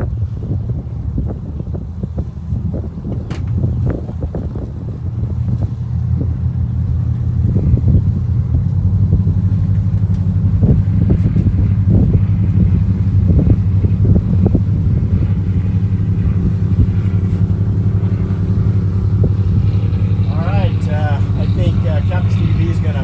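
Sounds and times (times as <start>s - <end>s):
boat engine droning: 0.0s - 23.0s
short thumps of wind or water: 0.0s - 23.0s.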